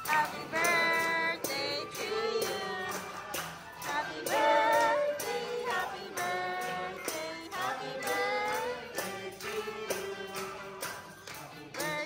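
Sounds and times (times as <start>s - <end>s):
group singing: 0.0s - 12.0s
hand claps: 0.0s - 12.0s
tambourine: 0.0s - 12.0s.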